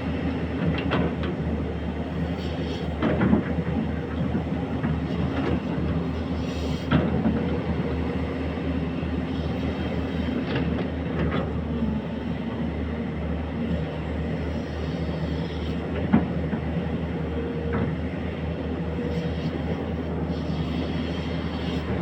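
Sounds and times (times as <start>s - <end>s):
excavator engine running: 0.0s - 22.0s.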